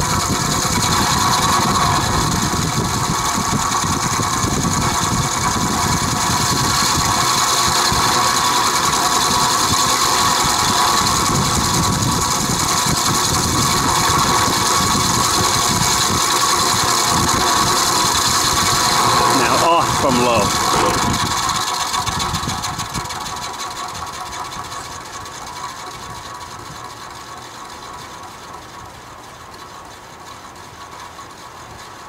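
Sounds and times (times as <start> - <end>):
box fan rattling drone: 0.0 - 32.0.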